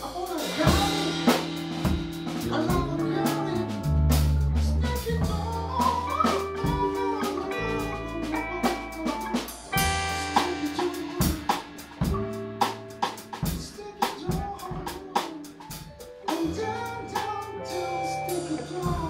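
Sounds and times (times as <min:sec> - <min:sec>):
electric bass: 0:00.0 - 0:15.0, 0:15.7 - 0:19.0
drum kit: 0:00.0 - 0:19.0
man singing: 0:00.0 - 0:19.0
keyboard playing: 0:00.1 - 0:19.0
electric guitars: 0:00.4 - 0:19.0.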